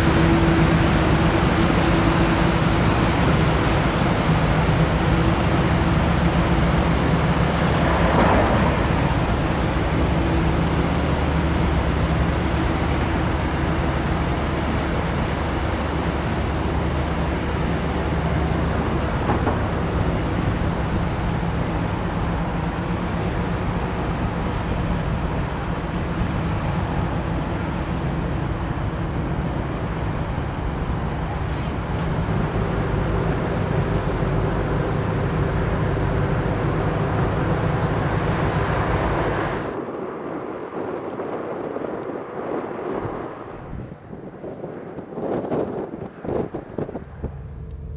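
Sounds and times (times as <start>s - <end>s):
engines droning: 0.0s - 47.9s
outdoor noise: 0.0s - 47.9s.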